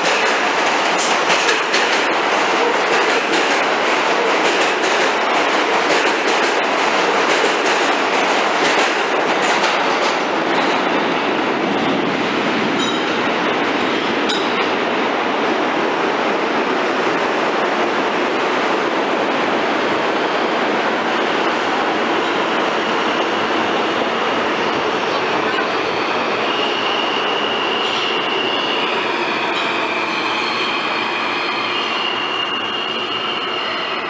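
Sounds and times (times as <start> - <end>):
subway train wheel and track noise: 0.0 - 34.0.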